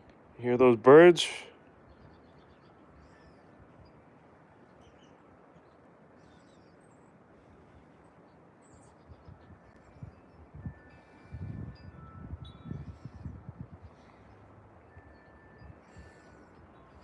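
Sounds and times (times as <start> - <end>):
distant birds chirping: 0.0 - 17.0
steady outdoor hiss: 0.0 - 17.0.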